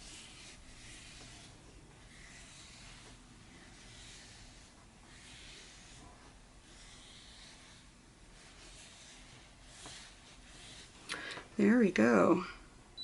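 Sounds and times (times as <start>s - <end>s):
iron rubbing over paper: 0.0s - 11.1s.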